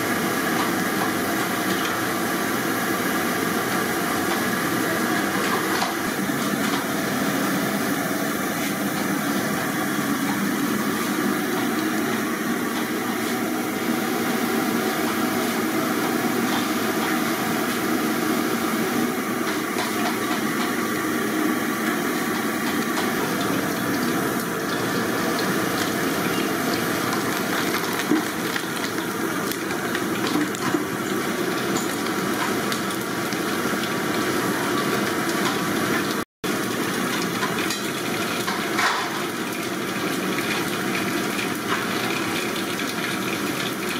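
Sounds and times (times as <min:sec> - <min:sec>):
potatoes deep-frying in oil: 0:00.0 - 0:43.9.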